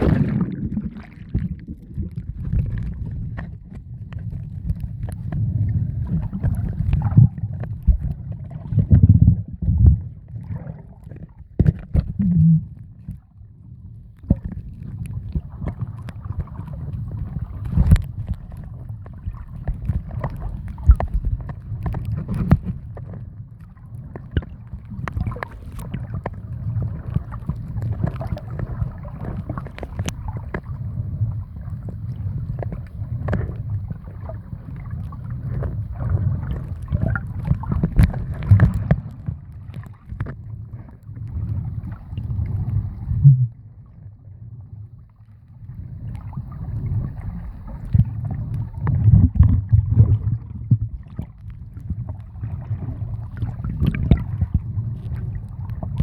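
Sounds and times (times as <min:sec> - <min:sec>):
muffled water rumble: 0:00.0 - 0:56.0
water gurgles: 0:00.0 - 0:56.0.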